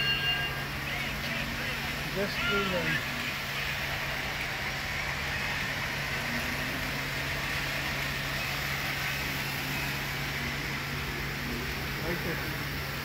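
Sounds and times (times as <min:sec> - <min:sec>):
model train running whir: 0:00.0 - 0:13.0.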